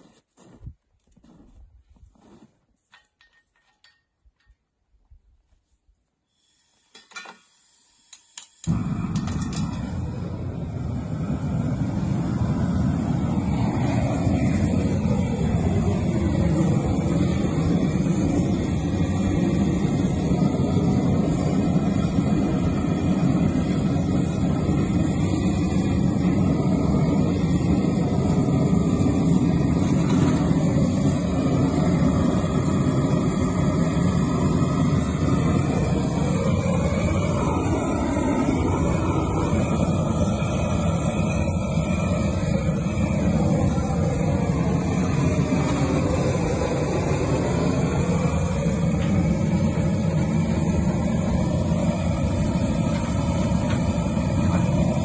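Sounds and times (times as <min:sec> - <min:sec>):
propane torch burning: 0:06.2 - 0:55.0.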